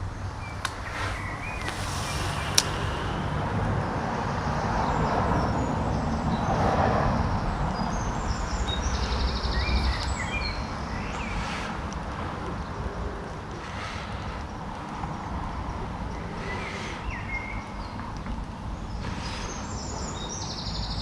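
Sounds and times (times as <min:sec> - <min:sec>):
small birds chirping: 0:00.0 - 0:21.0
wind on microphone: 0:00.0 - 0:21.0.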